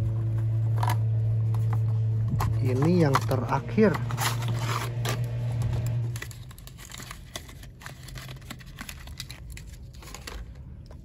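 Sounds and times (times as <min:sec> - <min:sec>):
low hum: 0:00.0 - 0:11.0
packaging crinkling and tearing: 0:00.2 - 0:11.0.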